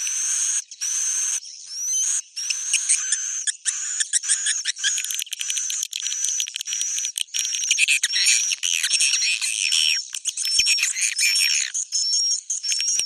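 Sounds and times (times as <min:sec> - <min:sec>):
swiftlets chirping and twittering: 0:00.1 - 0:13.0.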